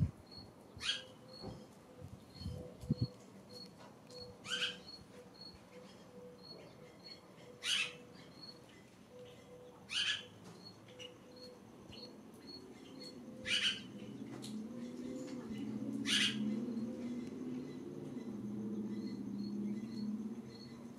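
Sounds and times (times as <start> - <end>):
harsh bird calls: 0.4 - 20.9.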